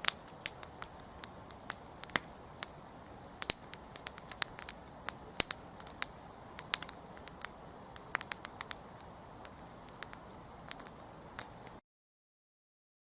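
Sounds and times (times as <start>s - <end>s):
campfire crackling and popping: 0.0s - 11.8s
flame hissing: 0.0s - 11.8s.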